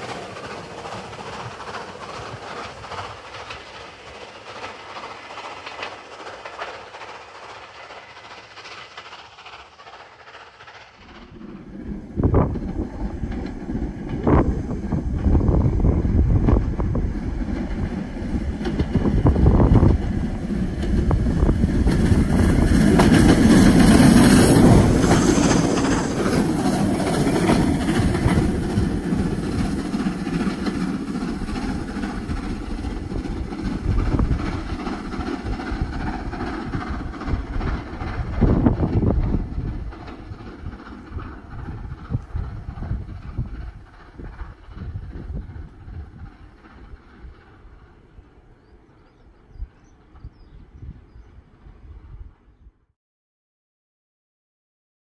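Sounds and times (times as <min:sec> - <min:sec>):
wheels clattering over rail joints: 0:00.0 - 0:50.4
steam locomotive exhaust rumble: 0:00.0 - 0:52.9.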